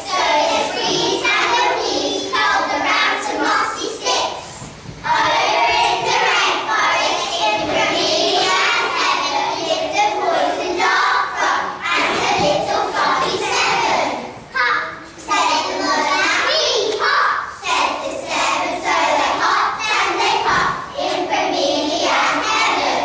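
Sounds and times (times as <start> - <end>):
young children singing: 0.0 - 23.0.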